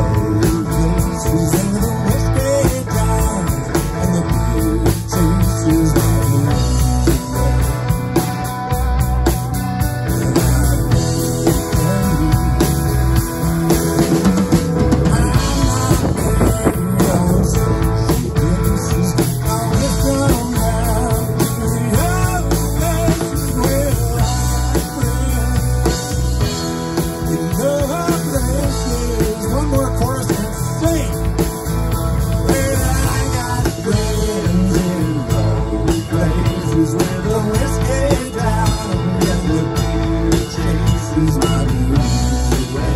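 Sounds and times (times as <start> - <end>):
rock band playing: 0.0 - 42.9.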